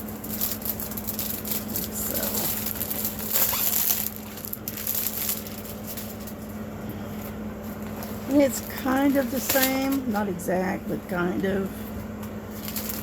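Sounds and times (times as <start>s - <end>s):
plastic packaging rustling: 0.0s - 10.4s, 11.6s - 13.0s.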